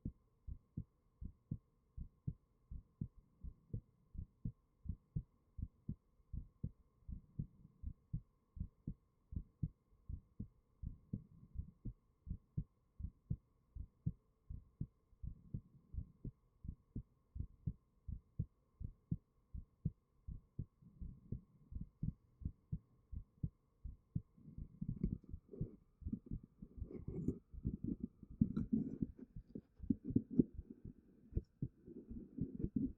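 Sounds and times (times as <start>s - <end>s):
faint steady hum: 0.0s - 32.9s
human heartbeat thumps: 0.0s - 32.9s.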